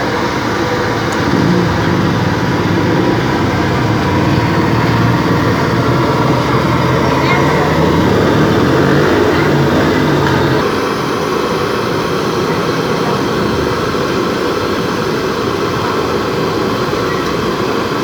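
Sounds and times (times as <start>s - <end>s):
loud noisy roar: 0.0s - 18.0s
vehicle engine low hum: 0.2s - 17.5s.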